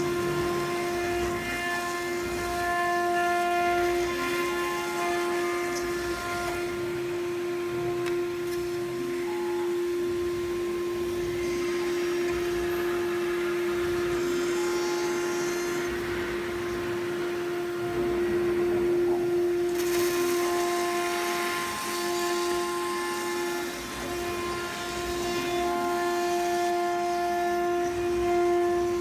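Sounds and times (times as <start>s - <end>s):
router spindle whine: 0.0s - 29.0s.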